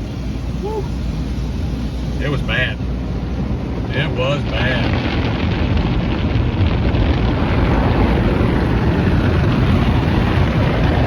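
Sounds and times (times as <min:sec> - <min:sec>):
car wash rushing noise: 0:00.0 - 0:11.0.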